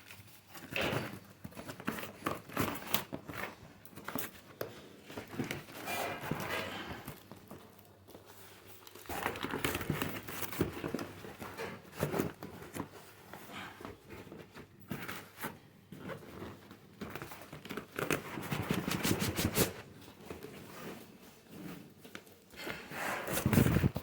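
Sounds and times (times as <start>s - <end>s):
packaging crinkling and rustling: 0.0s - 22.6s, 23.2s - 24.0s.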